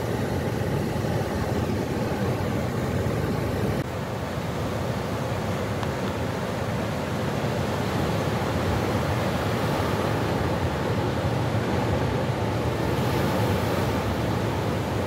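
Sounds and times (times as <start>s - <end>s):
ocean surf breaking on shore: 0.0s - 15.0s.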